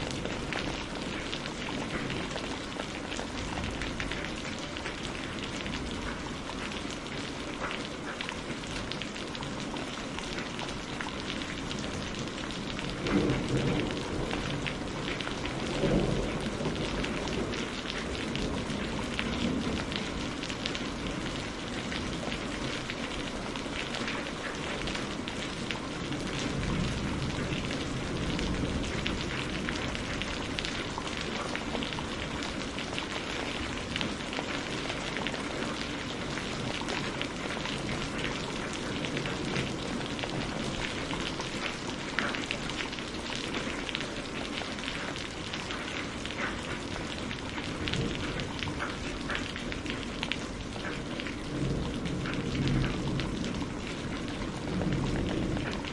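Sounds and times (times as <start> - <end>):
heavy rain pattering: 0.0 - 55.9.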